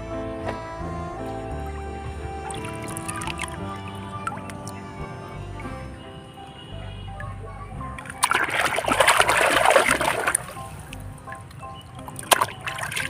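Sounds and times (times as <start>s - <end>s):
background music: 0.0s - 13.0s
water splashing: 2.4s - 13.0s.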